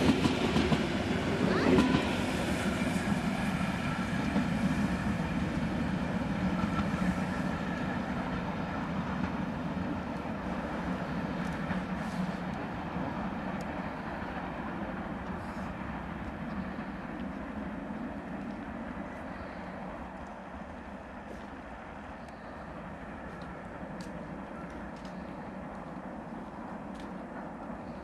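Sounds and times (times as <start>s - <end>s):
steam train rumbling: 0.0s - 28.0s.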